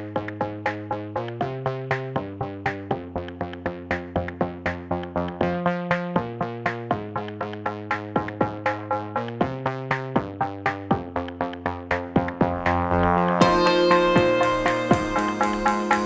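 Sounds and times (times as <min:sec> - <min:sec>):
drum machine beat: 0:00.0 - 0:16.0
synthesizer chords: 0:00.0 - 0:16.0.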